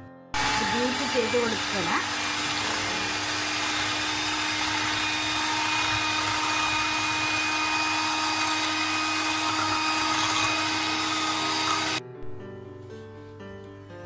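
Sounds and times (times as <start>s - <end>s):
electric hand mixer whipping cream: 0.4s - 12.0s.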